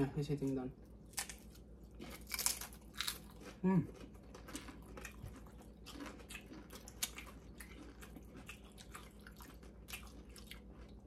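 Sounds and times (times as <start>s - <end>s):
tortilla chips being chewed: 0.9s - 11.0s.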